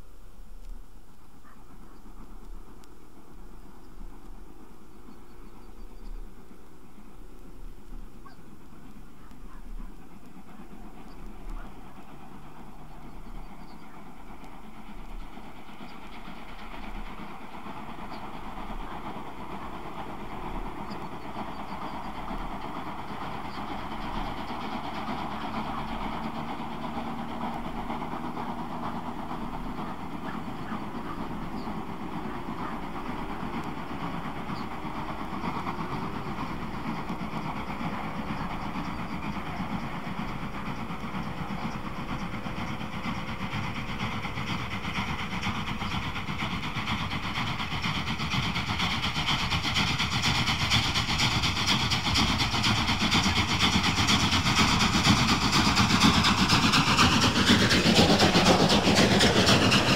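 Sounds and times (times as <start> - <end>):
diesel train engine droning: 0.0 - 59.9
steam locomotive exhaust: 0.0 - 59.9.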